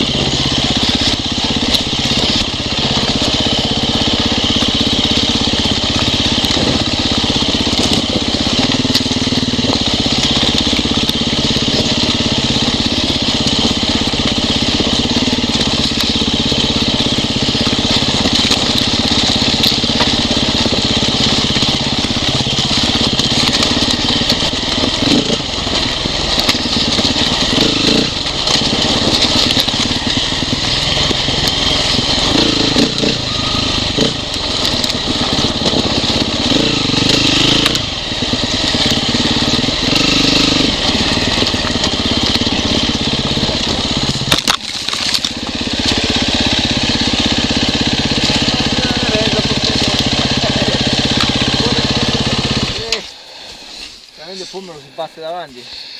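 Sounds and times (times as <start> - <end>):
dirt bike engine revving: 0.0 - 55.9
gravel crunching under tyres: 0.0 - 55.9.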